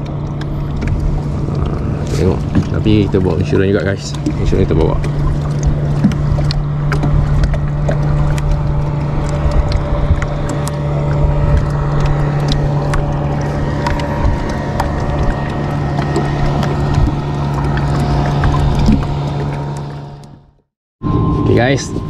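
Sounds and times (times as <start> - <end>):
boat motor humming: 0.0 - 22.0
water noise: 0.0 - 22.0
wind: 0.0 - 22.0.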